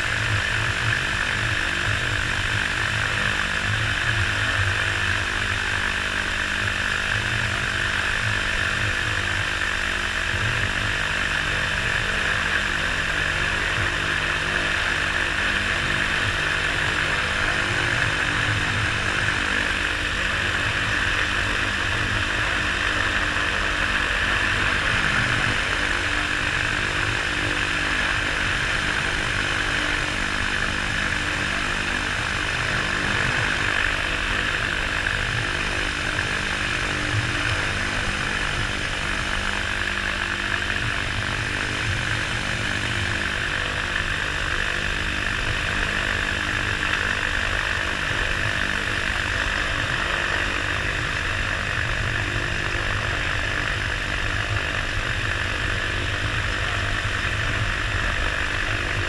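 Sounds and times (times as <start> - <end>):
microlight engine and propeller: 0.0 - 59.0.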